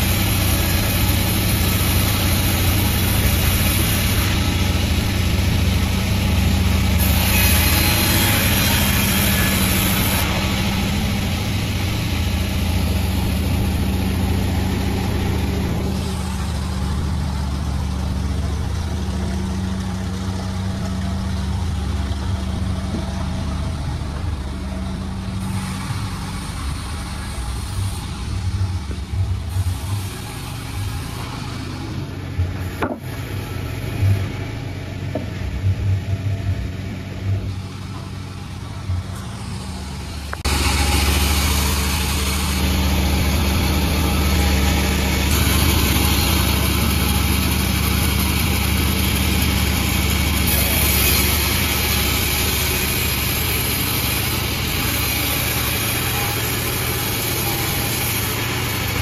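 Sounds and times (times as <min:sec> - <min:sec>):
sawmill machine drone: 0:00.0 - 0:59.0.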